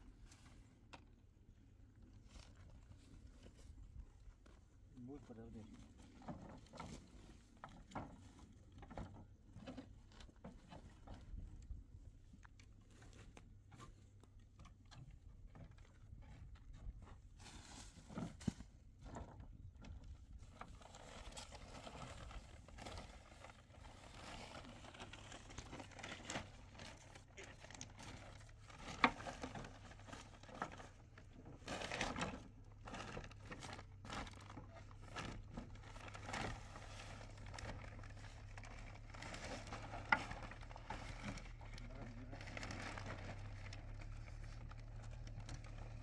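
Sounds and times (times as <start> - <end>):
rustling handling noises: 1.9 - 46.0.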